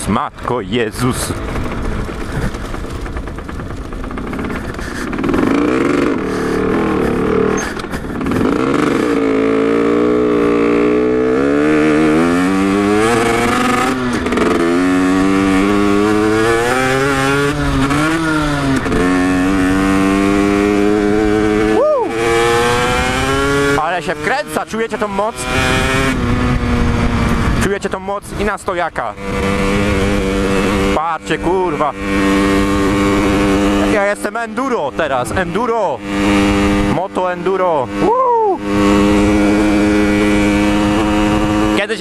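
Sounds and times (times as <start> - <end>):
two-stroke engine revving: 0.0 - 42.0.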